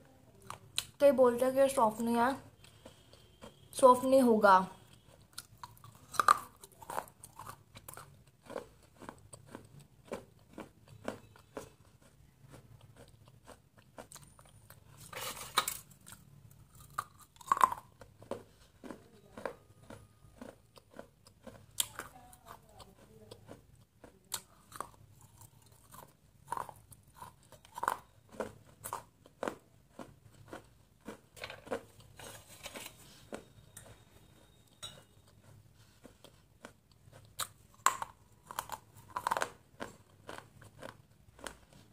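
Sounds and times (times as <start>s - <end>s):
chewing crunches: 4.8s - 41.9s.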